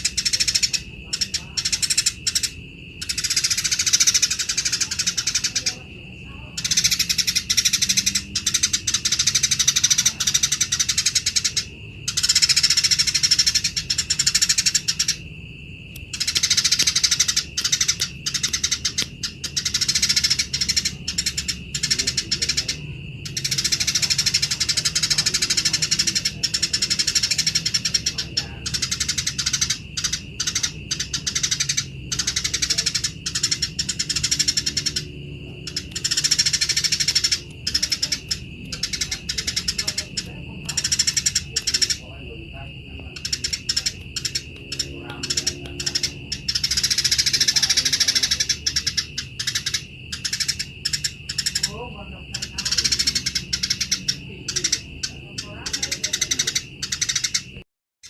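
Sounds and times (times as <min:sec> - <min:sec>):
sparrows chattering harshly: 0:00.0 - 0:57.6.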